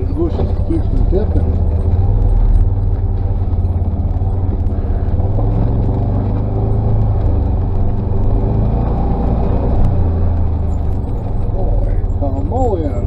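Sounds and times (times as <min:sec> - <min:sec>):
utility vehicle engine droning: 0:00.0 - 0:13.0.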